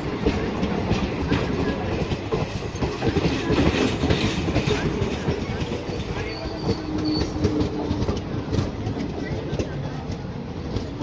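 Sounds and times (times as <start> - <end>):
train wheels clattering: 0.0 - 11.0.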